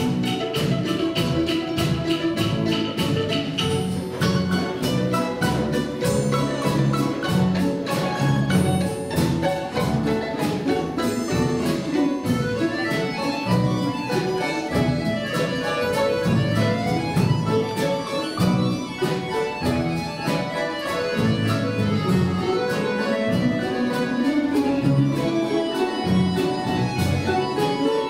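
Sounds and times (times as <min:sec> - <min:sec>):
plucked folk string orchestra: 0:00.0 - 0:28.0.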